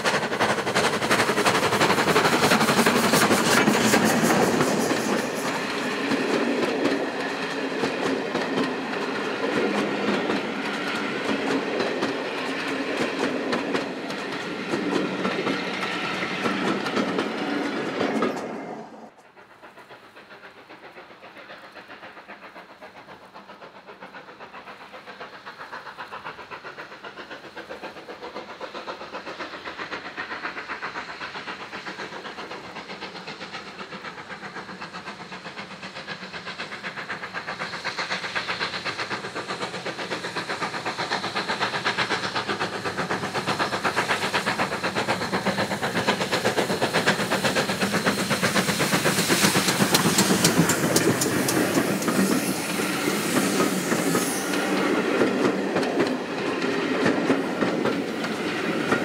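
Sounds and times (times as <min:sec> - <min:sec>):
steam locomotive exhaust beats: 0:00.0 - 0:59.0
train coaches rattling over rail joints: 0:00.0 - 0:59.0.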